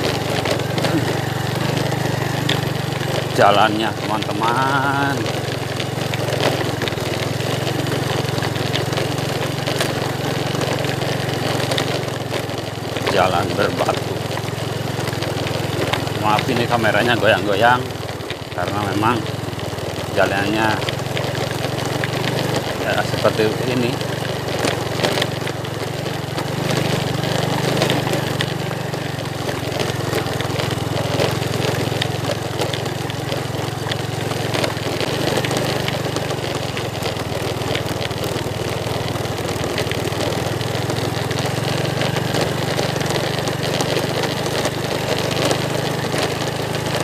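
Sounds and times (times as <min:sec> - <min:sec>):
motorcycle engine running: 0:00.0 - 0:47.0
motorcycle rattling over stones: 0:00.0 - 0:47.0.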